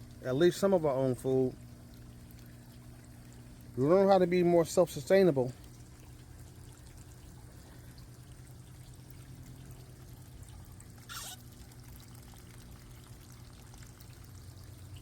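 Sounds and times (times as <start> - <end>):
faint trickling water: 0.0 - 15.0.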